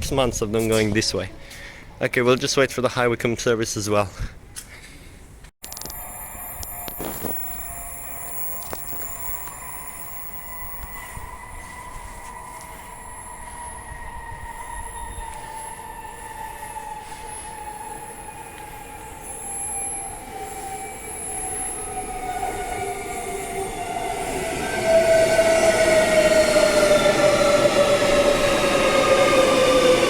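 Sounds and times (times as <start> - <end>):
electric train pulling in: 5.7 - 30.0.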